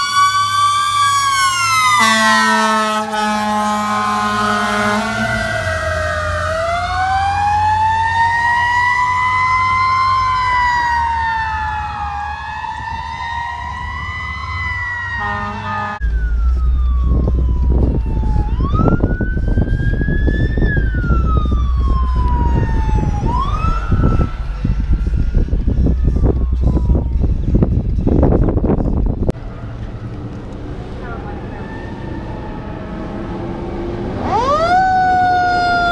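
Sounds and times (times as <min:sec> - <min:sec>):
police siren wailing: 0:00.0 - 0:27.6, 0:29.8 - 0:35.9
fire truck sirens wailing: 0:00.0 - 0:35.9
low car rumble: 0:00.0 - 0:35.9.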